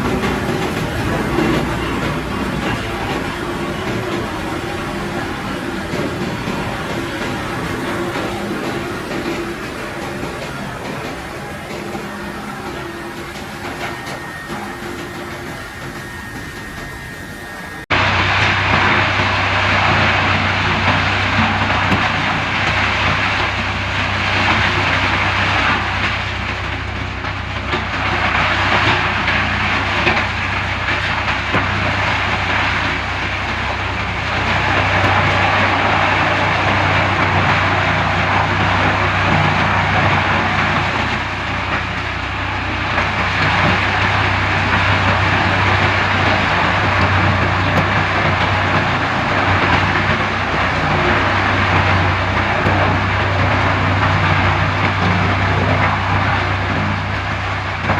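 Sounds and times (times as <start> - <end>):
wood chipper grinding wood: 0.0 - 57.9.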